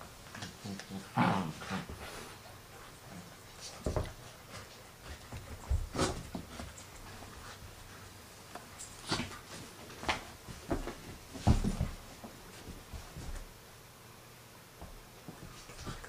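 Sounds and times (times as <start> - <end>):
dogs scuffling: 0.2 - 13.6.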